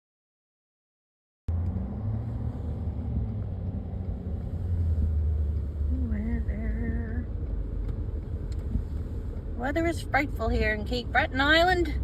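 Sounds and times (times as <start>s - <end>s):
steady low rumble: 1.5s - 12.0s.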